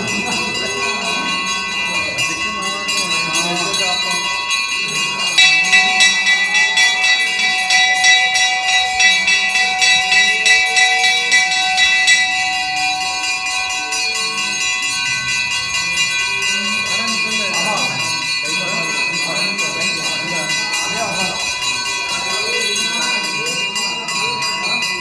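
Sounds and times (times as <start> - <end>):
brass bells ringing: 0.0 - 25.0.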